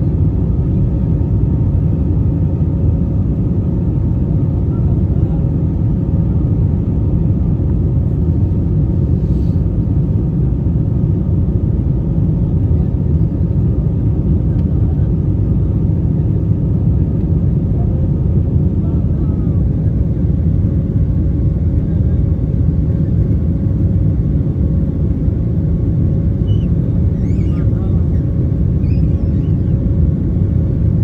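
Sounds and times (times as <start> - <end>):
airliner cabin engine rumble: 0.0 - 31.0.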